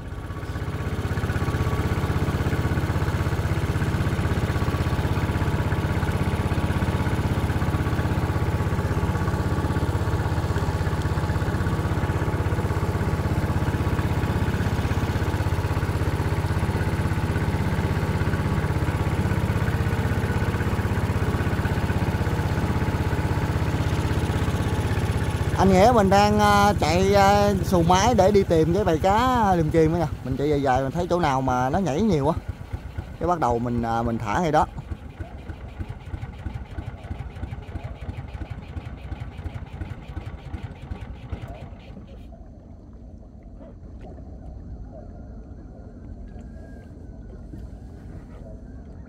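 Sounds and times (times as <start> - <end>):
motorboat engine rumbling: 0.0 - 49.0.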